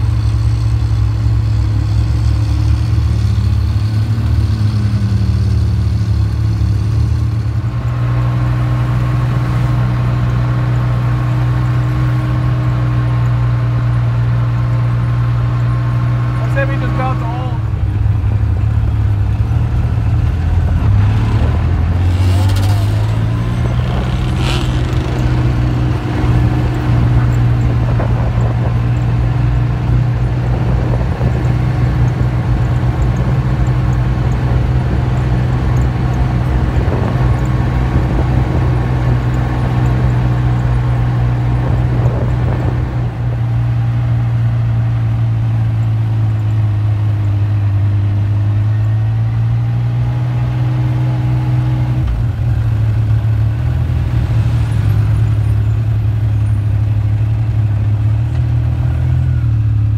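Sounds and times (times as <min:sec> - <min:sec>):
vehicle engine droning: 0:00.0 - 0:59.9.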